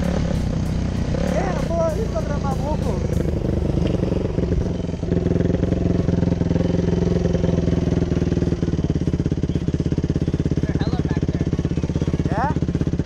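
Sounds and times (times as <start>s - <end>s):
dirt bike engine idling: 0.0s - 13.0s.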